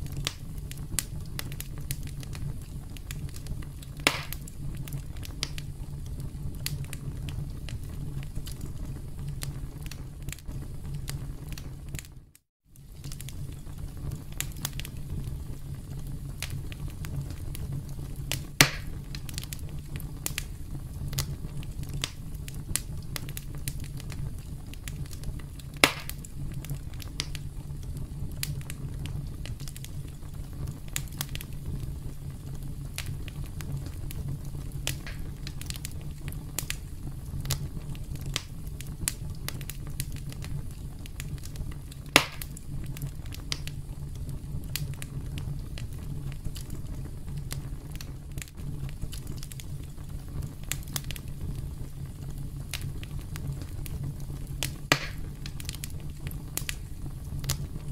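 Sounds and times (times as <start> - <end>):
loud sharp fire pops: 0.0 - 12.1, 16.1 - 52.0, 52.7 - 57.9
crackling burning wood: 0.0 - 57.9
rumble of flames: 0.0 - 57.9.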